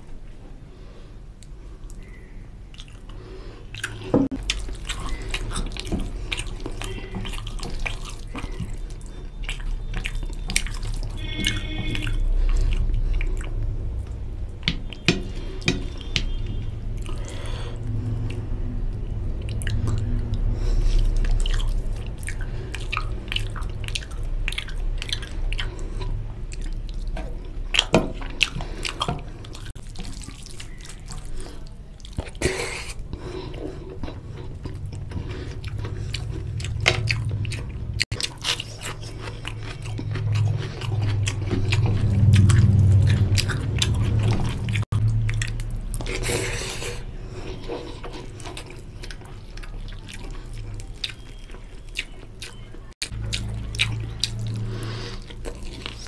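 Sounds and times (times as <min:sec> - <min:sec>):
loud chewing and lip smacking: 0:01.4 - 0:56.0.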